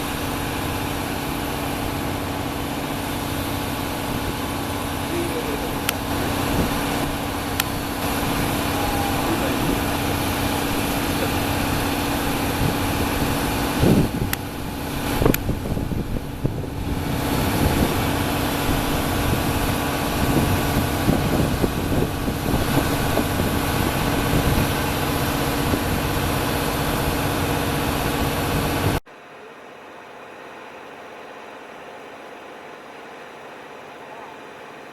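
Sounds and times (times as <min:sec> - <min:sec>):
diesel train engines idling: 0:00.0 - 0:34.9.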